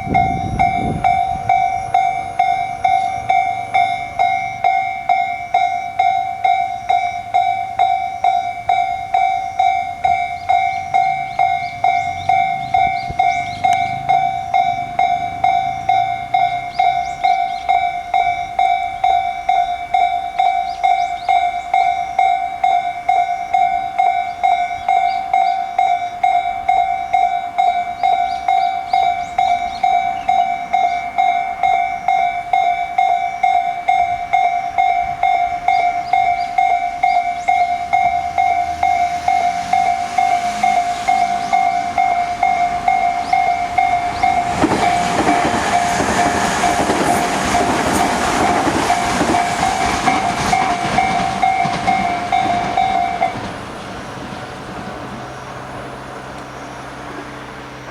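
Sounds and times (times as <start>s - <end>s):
level crossing warning bell: 0.0s - 57.9s
train wheel clatter: 0.0s - 57.9s.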